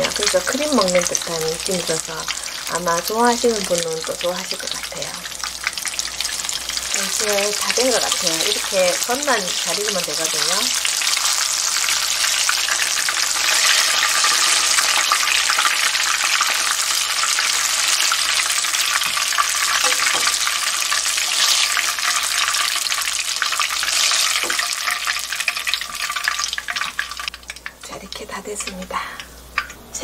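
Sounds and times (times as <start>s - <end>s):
batter frying in hot oil: 0.0s - 30.0s.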